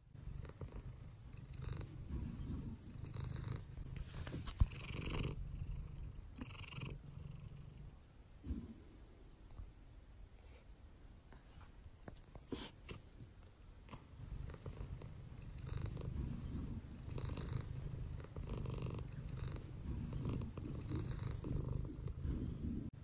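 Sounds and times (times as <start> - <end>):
cat purring: 0.0 - 9.0, 12.5 - 23.0.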